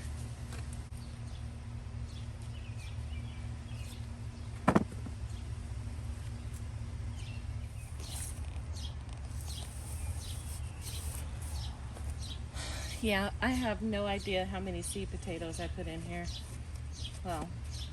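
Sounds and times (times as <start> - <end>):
distant traffic rumble: 0.0 - 17.9
faint steady hum: 0.0 - 17.9.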